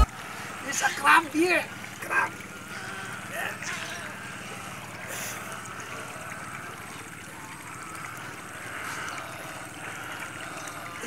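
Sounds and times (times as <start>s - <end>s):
steady background hum: 0.0s - 11.0s
water sloshing and trickling: 0.0s - 11.0s.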